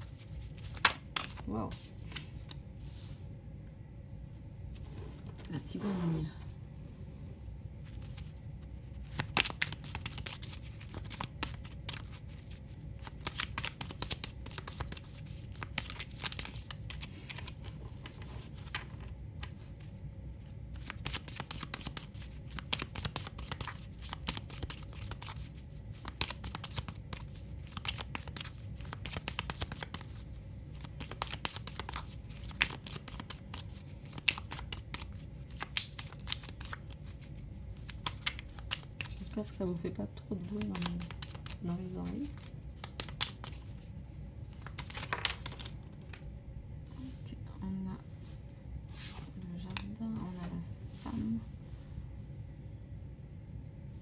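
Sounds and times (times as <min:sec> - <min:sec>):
cards being shuffled: 0:00.0 - 0:03.2, 0:07.8 - 0:19.9, 0:20.7 - 0:39.6, 0:40.3 - 0:46.3, 0:48.2 - 0:51.3
low room hum: 0:00.0 - 0:54.0.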